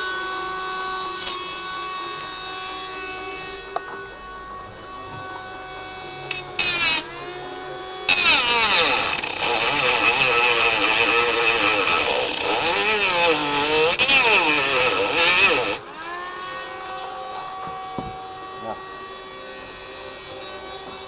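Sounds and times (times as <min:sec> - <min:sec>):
milling cutter cutting wood: 0:00.0 - 0:21.0
spindle hum: 0:00.0 - 0:21.0.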